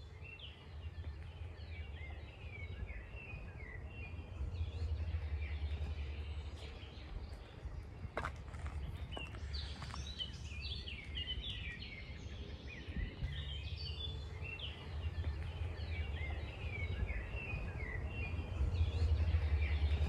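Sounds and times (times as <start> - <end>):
songbirds chirping and warbling: 0.0 - 20.0
steady low rumble: 0.0 - 20.0.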